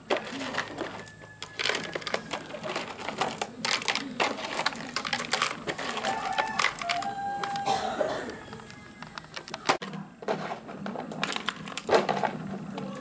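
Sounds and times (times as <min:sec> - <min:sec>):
gravel clattering into plastic truck: 0:00.0 - 0:13.0.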